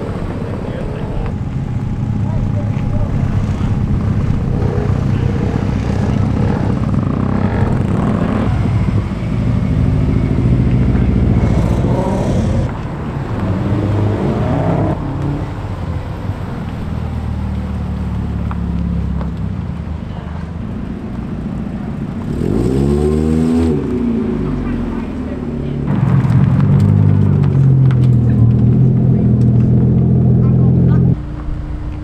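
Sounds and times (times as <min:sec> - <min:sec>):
car engines revving pulling away: 0:00.0 - 0:32.0.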